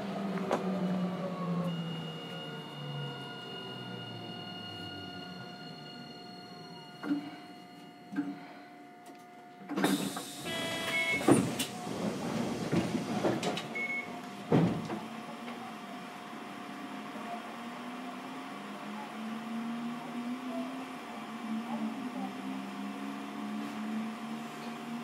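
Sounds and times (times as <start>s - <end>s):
tram motor low hum: 0.0s - 25.0s.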